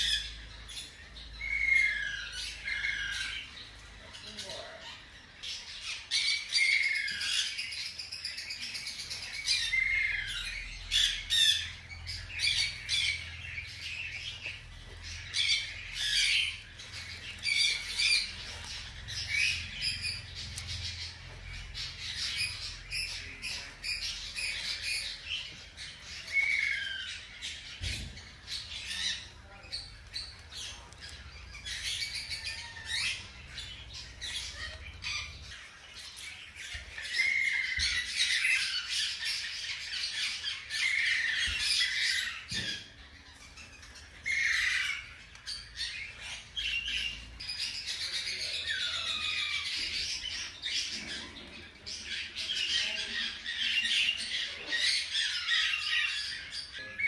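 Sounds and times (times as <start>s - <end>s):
hamster pups squeaking: 0.0s - 57.0s.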